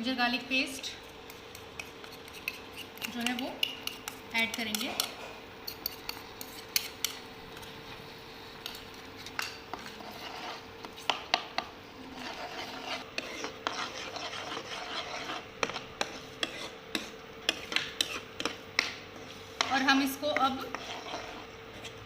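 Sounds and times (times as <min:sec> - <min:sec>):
metal spoon stirring thick paste: 0:00.8 - 0:07.7, 0:08.6 - 0:22.0.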